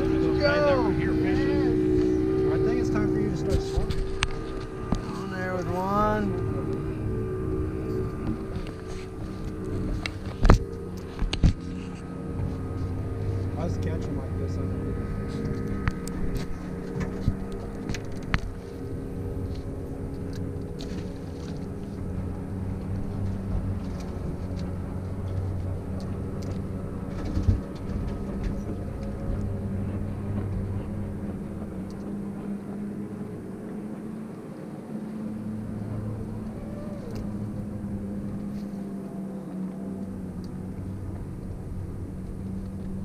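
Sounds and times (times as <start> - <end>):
boat motor running: 0.0 - 43.0.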